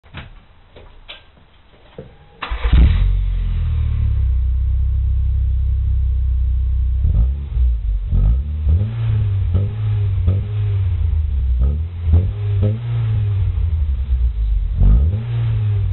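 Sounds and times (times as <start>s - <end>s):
car engine starting and idling: 2.3s - 15.9s.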